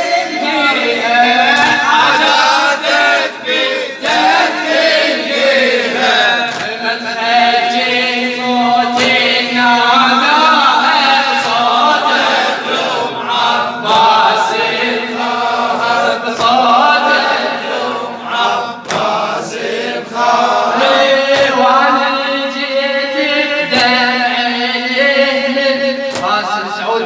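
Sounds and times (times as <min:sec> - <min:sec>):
men chanting: 0:00.0 - 0:27.0.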